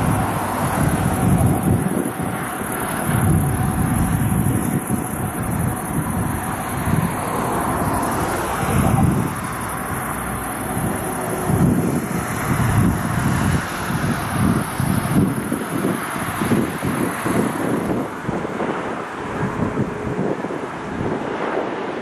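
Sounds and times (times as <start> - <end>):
distant motorway traffic hiss: 0.0 - 22.0
wind buffeting microphone: 0.0 - 22.0.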